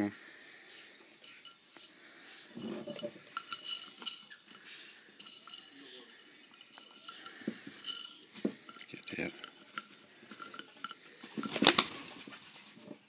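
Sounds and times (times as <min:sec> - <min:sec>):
parrot scrambling in glass jar: 0:02.5 - 0:13.0.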